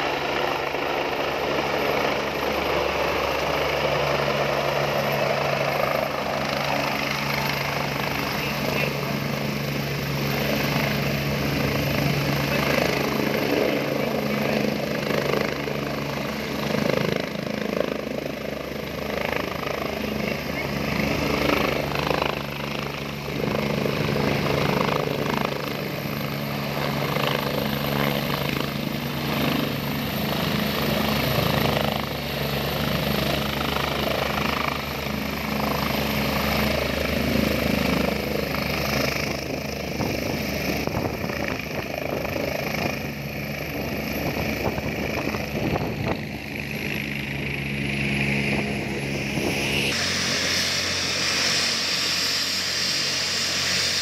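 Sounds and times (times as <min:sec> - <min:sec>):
helicopter rotor and turbine engines: 0:00.0 - 0:54.0.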